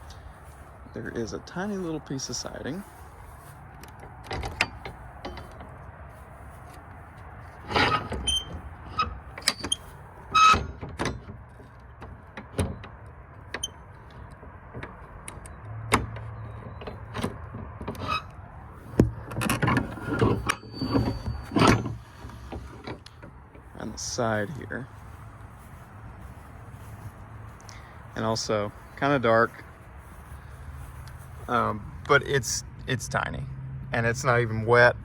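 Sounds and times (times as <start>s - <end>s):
footsteps outdoors: 0.0s - 34.9s.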